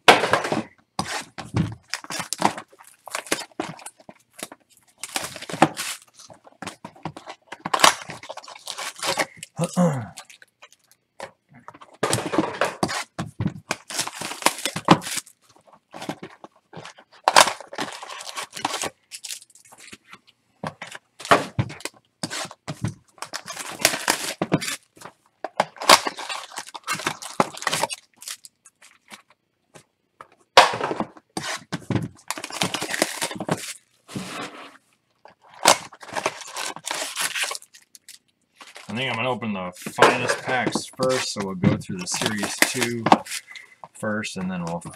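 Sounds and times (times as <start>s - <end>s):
plastic wrap tearing and crinkling: 1.0s - 11.0s, 11.9s - 20.1s, 20.9s - 29.4s, 31.3s - 43.8s.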